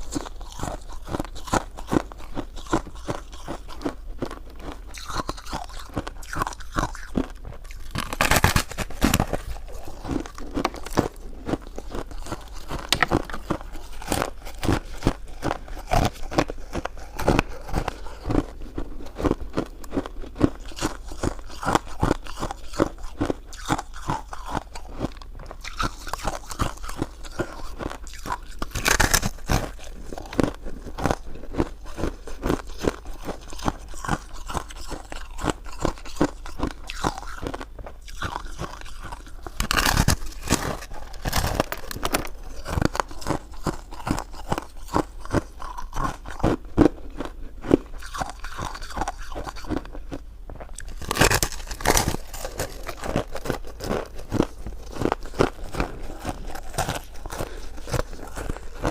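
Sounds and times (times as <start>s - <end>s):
chewing and biting food: 0.0s - 58.9s.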